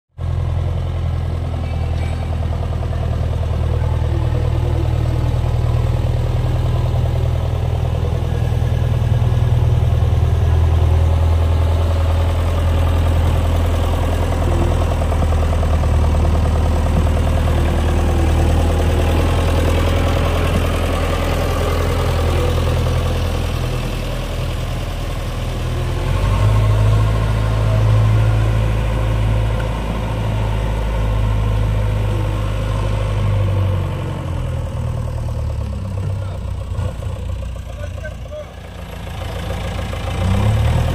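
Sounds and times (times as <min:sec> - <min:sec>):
diesel engine running: 0:00.2 - 0:40.9.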